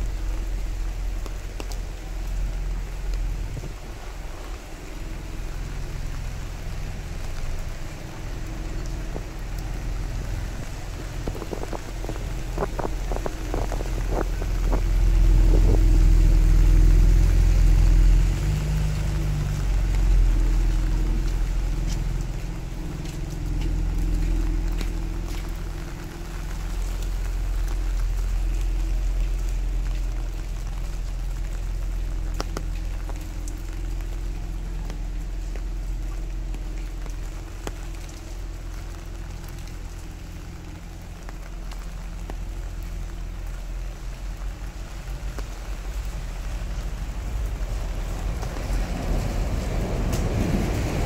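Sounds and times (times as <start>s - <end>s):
steady rain: 0.0s - 51.0s
vehicle engine idling: 0.0s - 51.0s.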